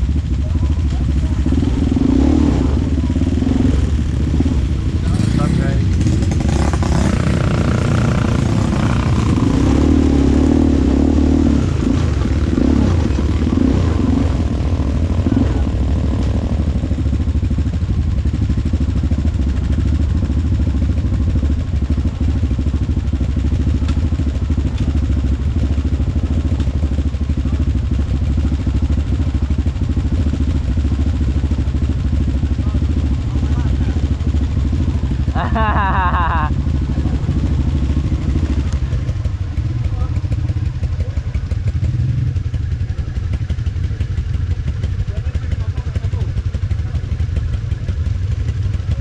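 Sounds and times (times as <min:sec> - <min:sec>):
atv engine droning: 0:00.0 - 0:49.0.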